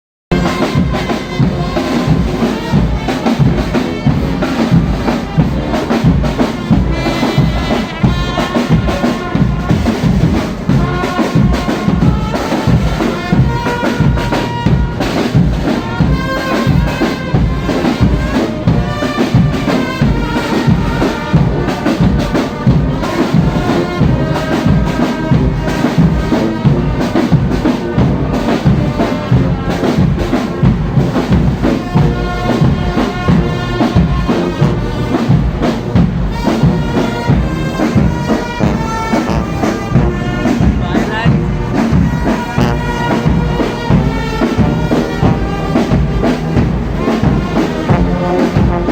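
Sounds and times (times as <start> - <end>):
brass band melody: 0.3 - 48.9
busy drumming: 0.3 - 48.9.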